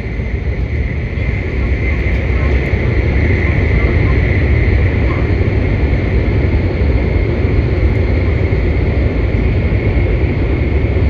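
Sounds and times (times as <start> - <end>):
rushing noise: 0.0 - 11.0
train low rumble: 0.0 - 11.0.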